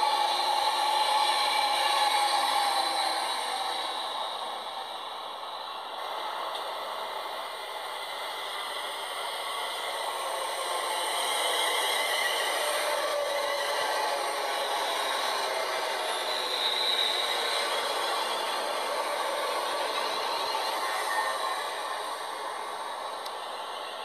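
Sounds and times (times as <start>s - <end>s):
trains rushing and rattling: 0.0s - 24.0s.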